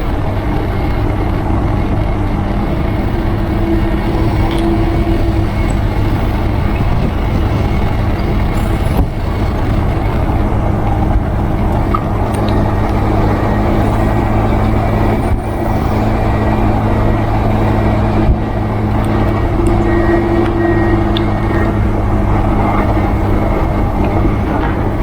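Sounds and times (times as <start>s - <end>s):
motorcycle engine hum: 0.0s - 25.0s
wind and road noise: 0.0s - 25.0s.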